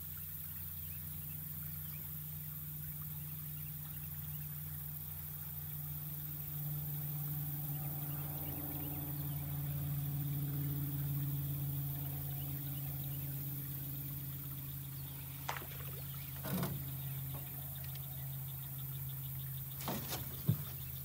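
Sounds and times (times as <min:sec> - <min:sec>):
small boat motor humming: 0:00.0 - 0:21.0.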